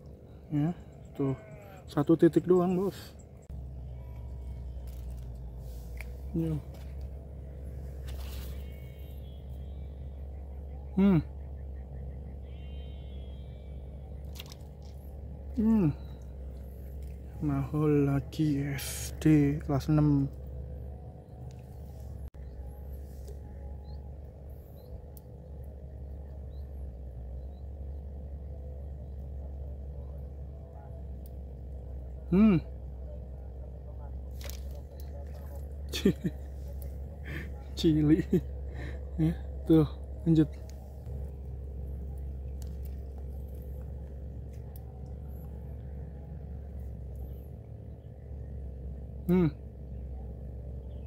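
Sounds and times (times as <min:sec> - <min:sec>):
low mechanical hum: 0:00.0 - 0:51.0
steady low rumble: 0:00.0 - 0:51.0.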